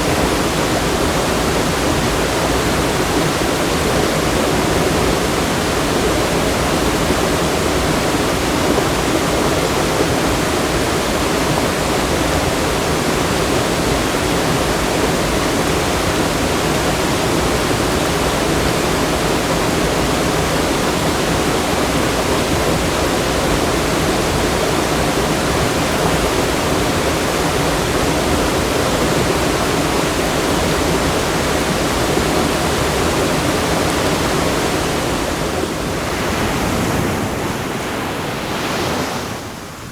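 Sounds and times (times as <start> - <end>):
fast-flowing water rushing: 0.0 - 39.9.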